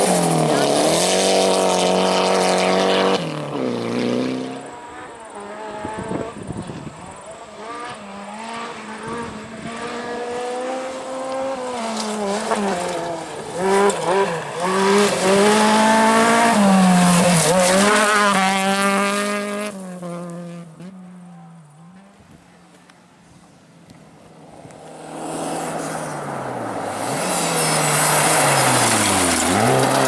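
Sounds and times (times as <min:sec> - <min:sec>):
rally car engine revving: 0:00.0 - 0:22.1, 0:24.4 - 0:30.0.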